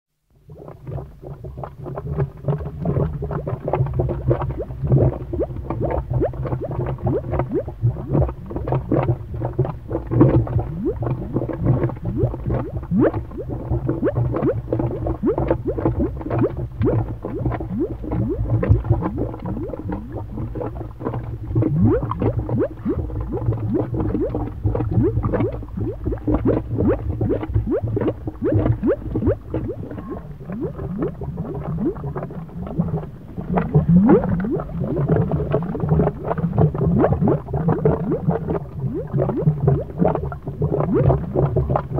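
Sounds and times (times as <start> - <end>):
cartoon lava bubbling: 0.2 - 41.9.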